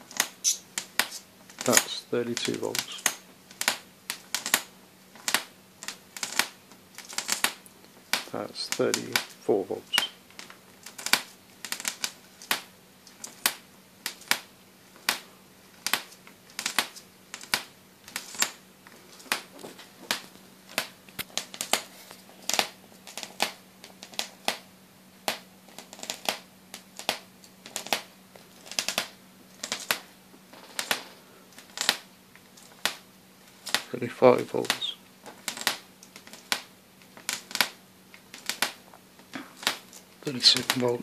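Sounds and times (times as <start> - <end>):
electric arc snapping: 0.0 - 41.0
steady low hum: 0.0 - 41.0.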